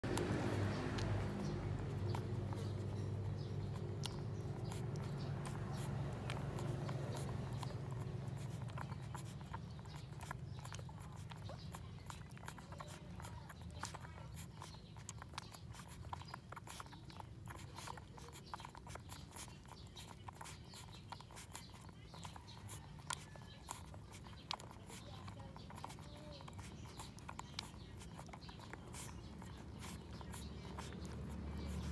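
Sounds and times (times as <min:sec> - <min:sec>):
puppies suckling wet clicks: 0:00.0 - 0:31.9.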